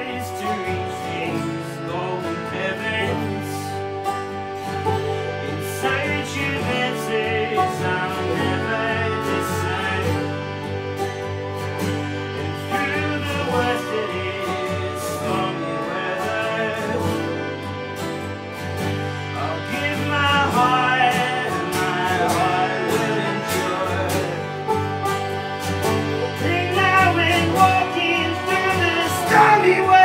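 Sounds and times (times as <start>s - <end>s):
harmonium chords: 0.0s - 30.0s
person singing: 0.0s - 30.0s
picked banjo: 0.0s - 30.0s
strummed acoustic guitar: 0.0s - 30.0s.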